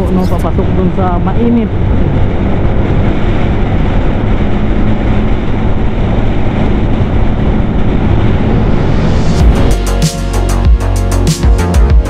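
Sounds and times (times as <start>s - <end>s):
heavy wind noise on microphone: 0.0s - 10.7s
motorcycle engine humming: 0.0s - 12.0s.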